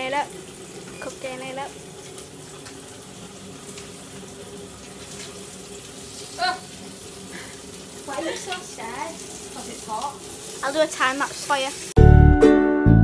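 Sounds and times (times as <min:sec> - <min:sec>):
bacon sizzling in a pan: 0:00.0 - 0:12.0.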